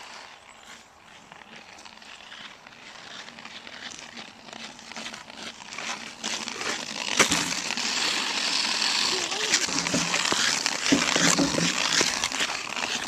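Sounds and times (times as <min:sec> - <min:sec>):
ice skate blades scraping ice: 0:00.0 - 0:13.0.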